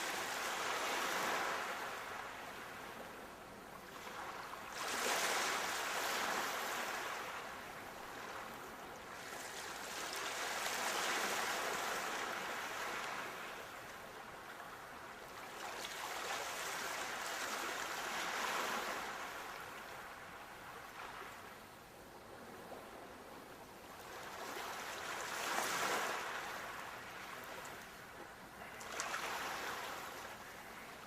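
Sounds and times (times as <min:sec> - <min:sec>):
waves breaking on shore: 0:00.0 - 0:03.2, 0:03.8 - 0:21.6, 0:23.9 - 0:31.0.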